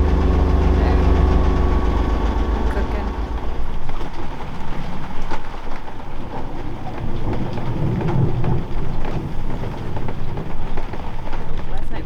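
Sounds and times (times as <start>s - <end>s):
heavy rain pouring: 0.0s - 12.0s
low rumble: 0.0s - 12.0s.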